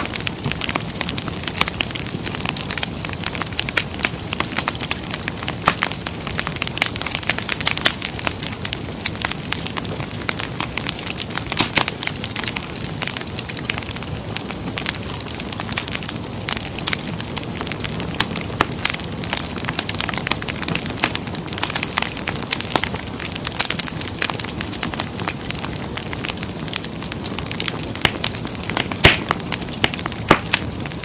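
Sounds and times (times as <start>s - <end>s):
low rush of burning: 0.0s - 31.0s
wood fire crackling: 0.0s - 31.0s.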